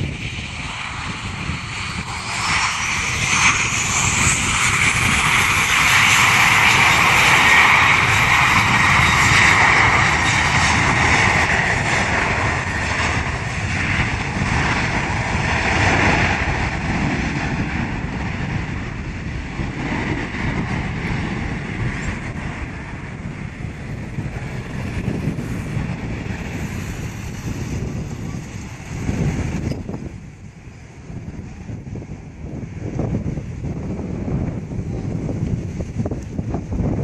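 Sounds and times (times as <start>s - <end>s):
jet airliner engines roaring: 0.0s - 37.0s.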